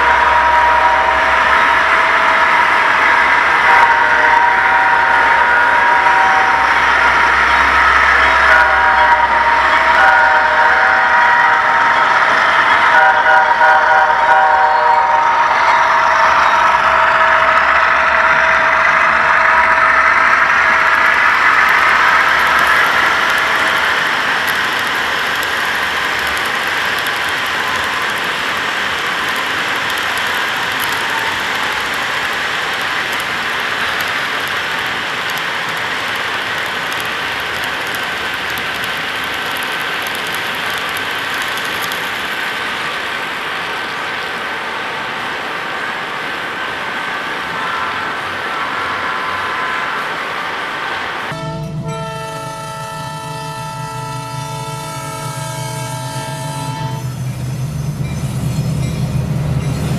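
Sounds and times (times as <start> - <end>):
model train cars rolling: 0.0 - 51.4
model locomotive hum: 0.0 - 59.9.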